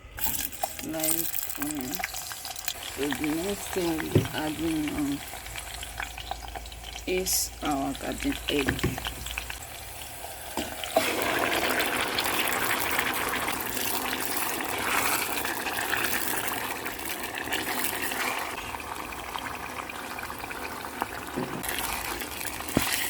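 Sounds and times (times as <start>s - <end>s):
food sizzling in hot oil: 0.1s - 23.0s.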